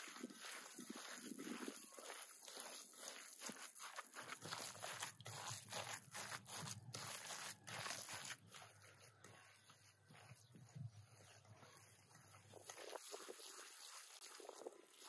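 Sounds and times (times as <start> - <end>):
hand kneading minced meat: 0.0 - 15.0
wet squelches: 0.0 - 15.0.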